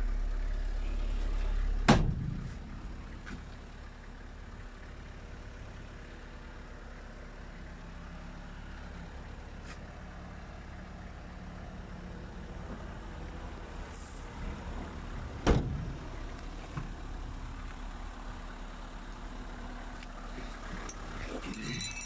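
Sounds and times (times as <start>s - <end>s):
van engine idling: 0.0s - 22.0s.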